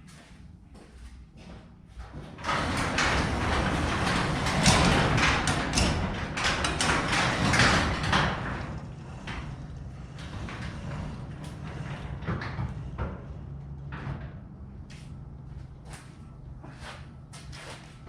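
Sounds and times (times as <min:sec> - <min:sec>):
garage door rolling and rattling: 0:01.3 - 0:18.0.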